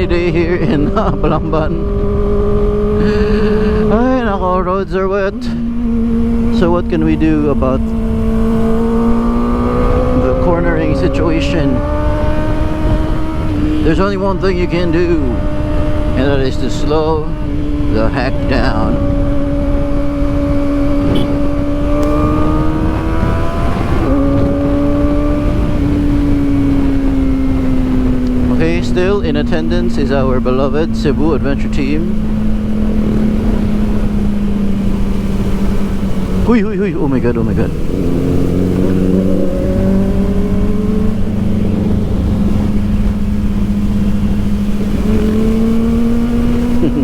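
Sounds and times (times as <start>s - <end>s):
low wind rush: 0.0s - 47.0s
motorcycle engine running: 0.0s - 47.0s.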